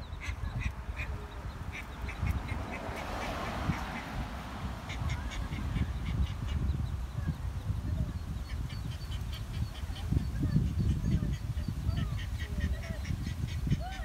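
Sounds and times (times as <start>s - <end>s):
ducklings peeping: 0.0s - 4.2s, 4.8s - 14.0s.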